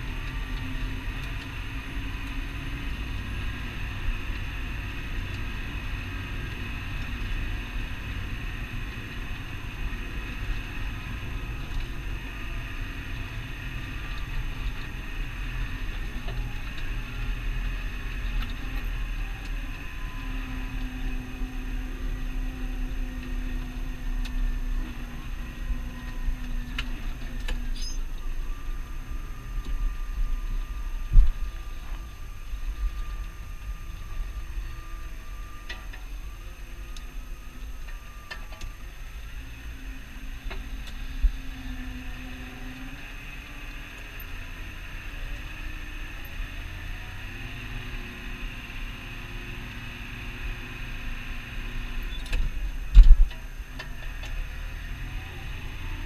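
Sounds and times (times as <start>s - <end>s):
tractor diesel engine drone: 0.0s - 56.0s.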